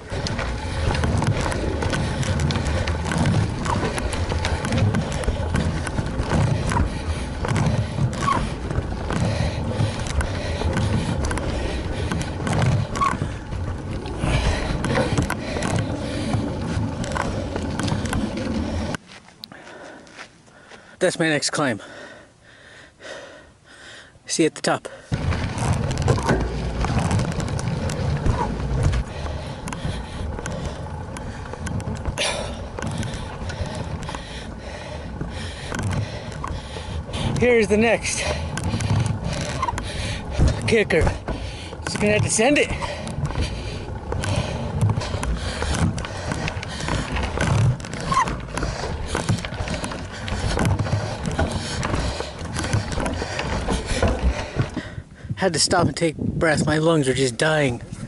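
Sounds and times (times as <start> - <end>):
bike tyres rumbling on dirt: 0.0 - 21.0, 24.9 - 58.0
cyclist breathing hard: 0.0 - 21.0, 21.7 - 55.4
bike rattles and clicks: 0.0 - 22.2, 24.4 - 58.0.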